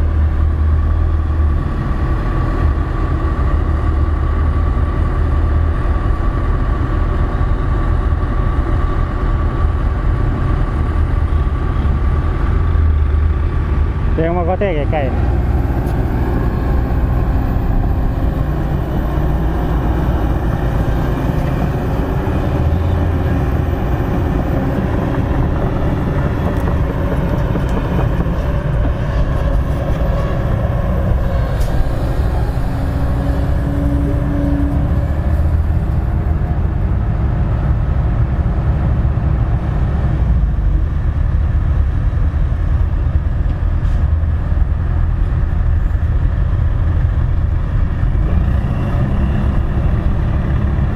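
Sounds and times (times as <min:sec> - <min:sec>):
dump truck diesel engine: 0:00.0 - 0:50.9
excavator diesel engine rumble: 0:00.0 - 0:50.9.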